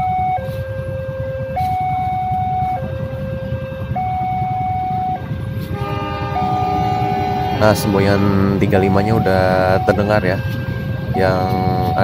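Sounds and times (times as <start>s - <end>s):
rumble of idling traffic: 0.0s - 12.0s
two-tone crossing alarm: 0.0s - 12.0s.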